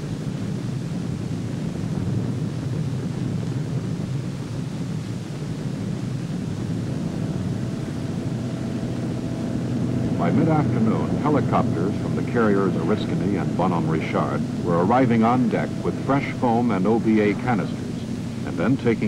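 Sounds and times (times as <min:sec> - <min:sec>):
distant aircraft engine: 0:00.0 - 0:19.0
faint steady whine: 0:00.0 - 0:19.0
wind rumble: 0:00.0 - 0:19.0.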